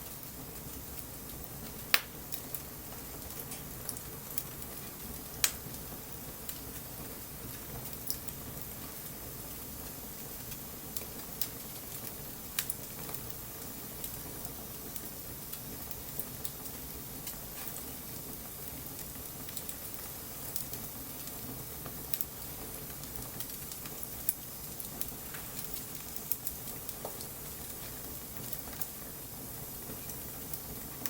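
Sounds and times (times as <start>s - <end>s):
bonfire crackling and popping: 0.0s - 31.0s
light rain hissing: 0.0s - 31.0s.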